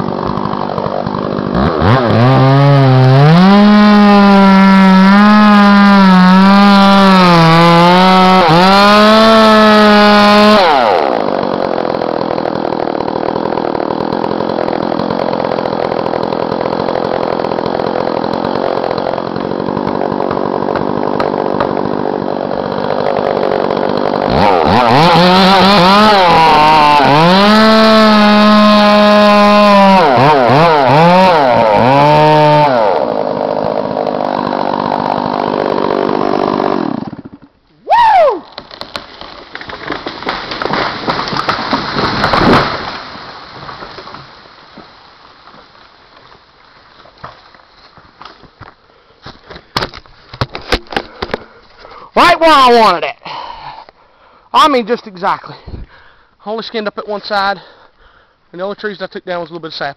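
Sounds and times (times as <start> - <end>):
chainsaw cutting wood: 0.0 - 37.6, 38.2 - 53.9.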